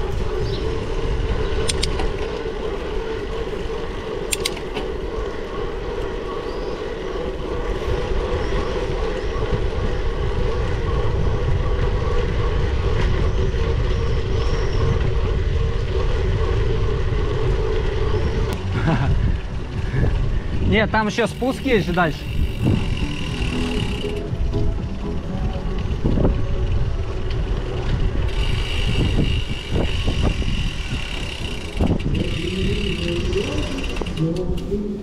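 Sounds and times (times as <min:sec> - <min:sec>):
bicycle rolling noise: 0:00.0 - 0:35.0
wind buffeting microphone: 0:00.0 - 0:35.0.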